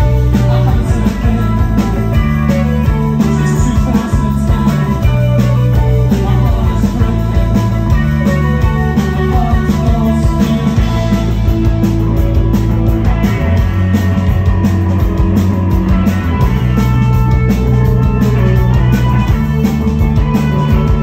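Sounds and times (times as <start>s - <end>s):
drum kit: 0.0s - 21.0s
electric bass: 0.0s - 21.0s
electric guitars: 0.0s - 21.0s.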